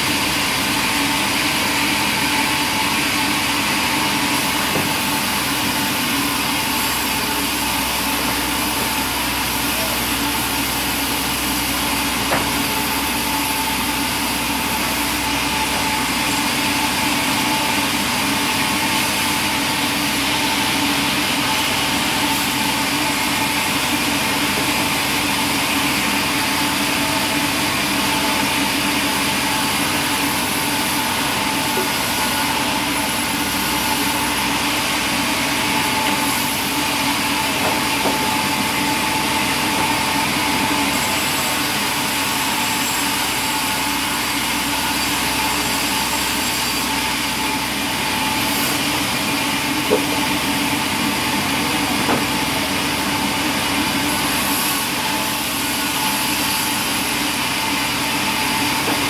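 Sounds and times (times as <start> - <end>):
band sawmill droning: 0.0 - 59.0.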